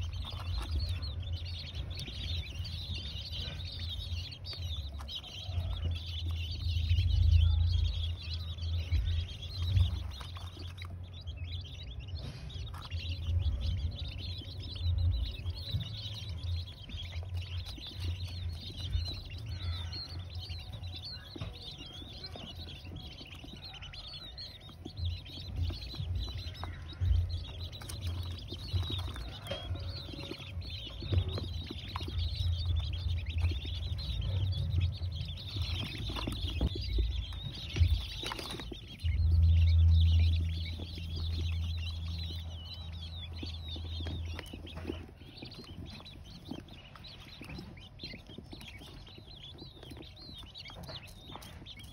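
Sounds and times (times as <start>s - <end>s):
low hum: 0.0s - 47.3s
quail twittering: 0.0s - 51.9s.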